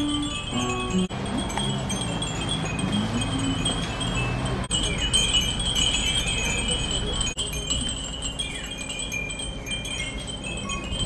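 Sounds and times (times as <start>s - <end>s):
glass wind-bells tinkling: 0.0s - 11.0s.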